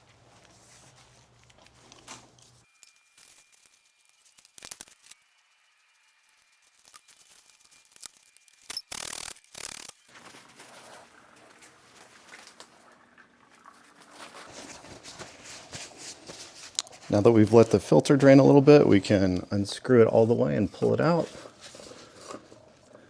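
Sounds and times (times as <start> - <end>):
scraping and rustling handling noises: 0.0 - 8.7, 10.0 - 12.9, 13.5 - 23.0.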